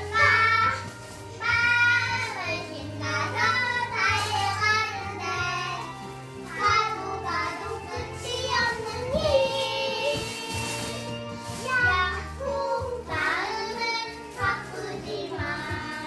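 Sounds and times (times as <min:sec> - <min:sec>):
child singing: 0:00.0 - 0:11.0, 0:11.6 - 0:16.0
musical accompaniment with bass: 0:00.0 - 0:16.0.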